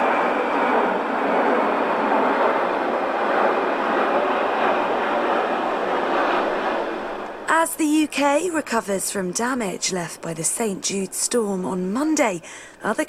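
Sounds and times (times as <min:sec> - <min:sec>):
loud steady rushing noise: 0:00.0 - 0:11.1.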